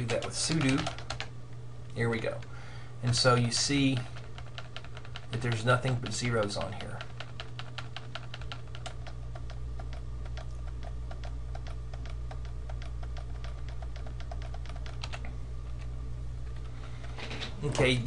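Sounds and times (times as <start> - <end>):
keyboard keys clicking: 0.0 - 1.3, 2.3 - 15.9
low steady hum: 0.0 - 18.0.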